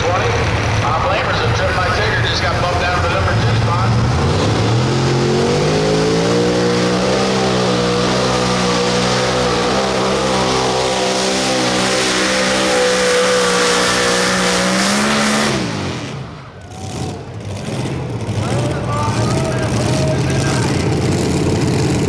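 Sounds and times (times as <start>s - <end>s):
tractor engine at full revs: 0.0s - 22.0s.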